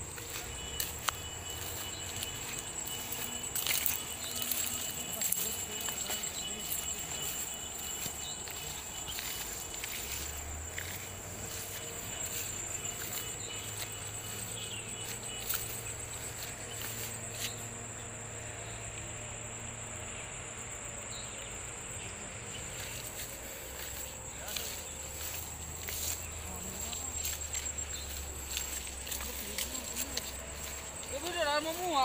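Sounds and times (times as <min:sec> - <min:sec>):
footsteps through dry grass: 0:00.0 - 0:17.8, 0:22.6 - 0:32.0
insects chirring: 0:00.0 - 0:32.0.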